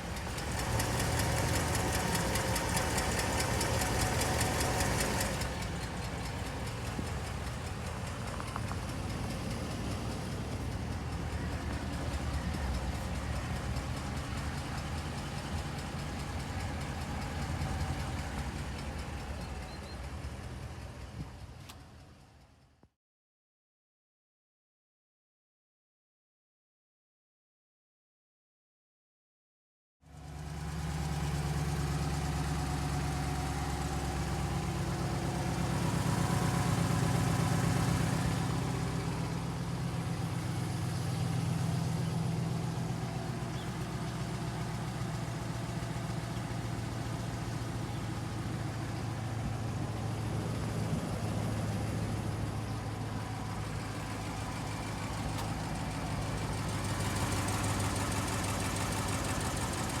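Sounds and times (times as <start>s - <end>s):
engine idling: 0.0s - 22.8s, 30.1s - 60.0s.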